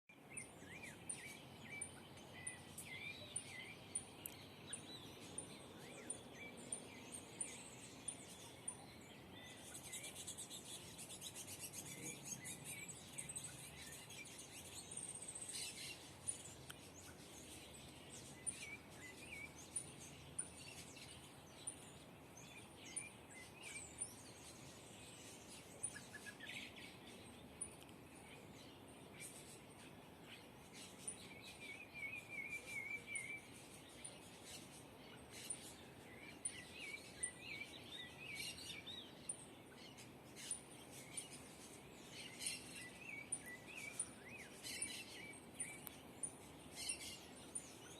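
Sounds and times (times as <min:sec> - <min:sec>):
faint background noise: 0:00.1 - 0:47.9
songbirds chirping: 0:00.1 - 0:47.9.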